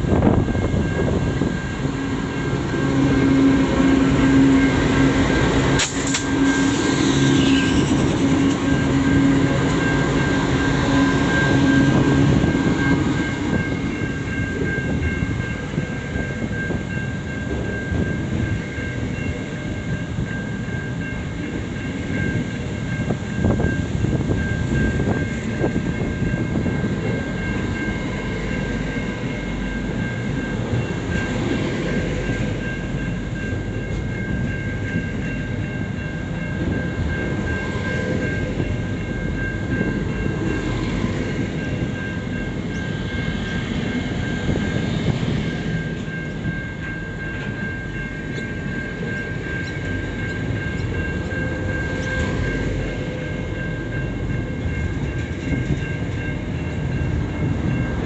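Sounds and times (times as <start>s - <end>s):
freight train wheels rumbling: 0.0s - 58.0s
steady high ringing tone: 0.0s - 58.0s
clickety-clack over rail joints: 2.5s - 19.2s, 20.9s - 58.0s.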